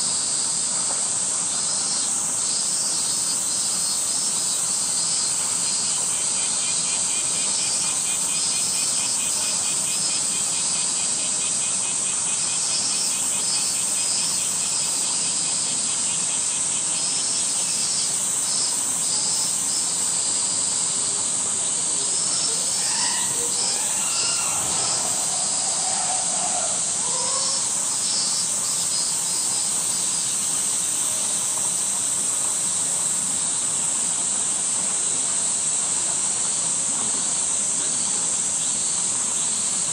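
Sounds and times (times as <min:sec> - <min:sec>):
cicada chorus drone: 0:00.0 - 0:39.9
pulsed insect call: 0:00.0 - 0:39.9.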